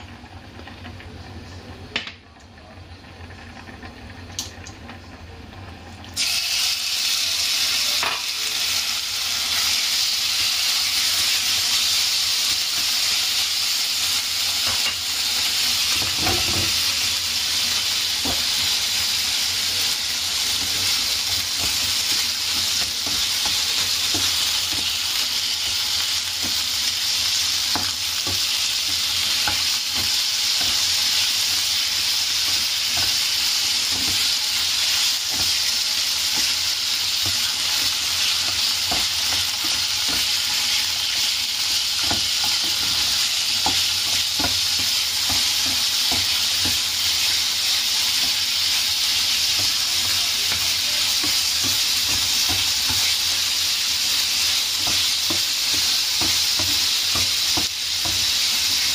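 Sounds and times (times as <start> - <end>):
chicken sizzling in hot oil: 0.0 - 1.2, 3.3 - 58.9.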